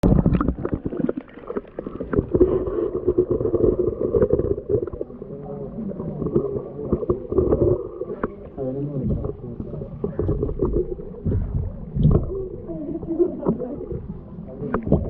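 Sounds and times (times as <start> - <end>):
muffled underwater water noise: 0.0 - 15.0.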